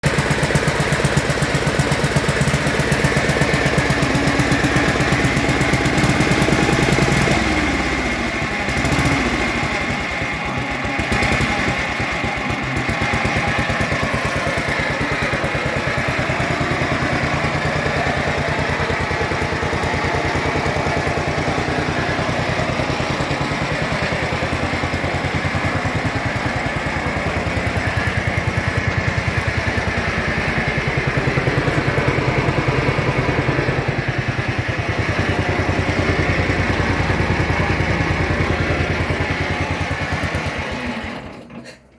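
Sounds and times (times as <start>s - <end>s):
engine running and idling: 0.0s - 41.9s.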